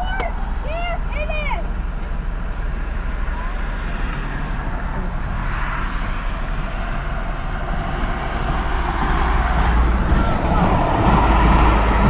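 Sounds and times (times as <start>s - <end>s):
steady low rumble: 0.0s - 12.0s
vehicle approaching on road: 0.0s - 12.0s.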